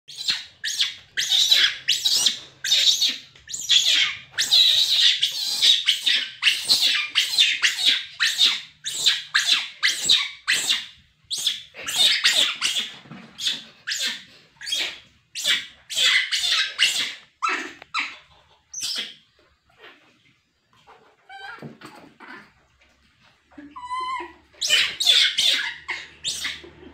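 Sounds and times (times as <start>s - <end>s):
baby monkey screaming: 0.1s - 19.2s, 23.7s - 26.8s.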